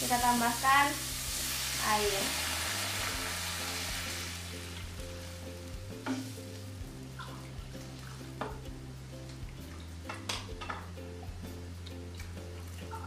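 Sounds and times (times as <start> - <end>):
background music with low notes: 0.0 - 13.0
spices sizzling in a hot pan: 0.0 - 13.0.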